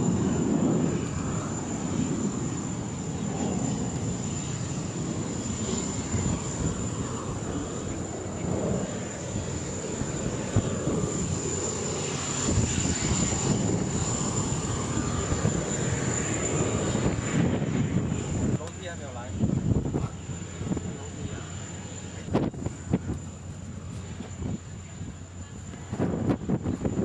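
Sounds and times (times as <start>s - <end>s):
aircraft engine roar: 0.0s - 27.0s.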